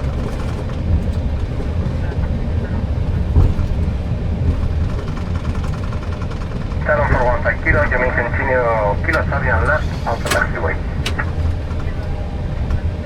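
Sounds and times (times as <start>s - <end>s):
aircraft cockpit low rumble: 0.0s - 13.0s
wheel bump: 0.0s - 13.0s.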